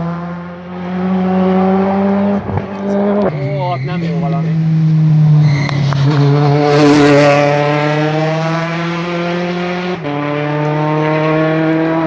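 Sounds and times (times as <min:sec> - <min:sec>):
rally car passing at high revs: 0:00.0 - 0:12.0.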